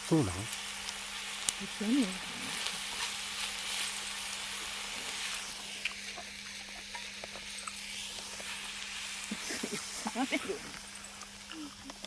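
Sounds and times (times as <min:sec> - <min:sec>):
meat sizzling on a grill plate: 0:00.0 - 0:12.0.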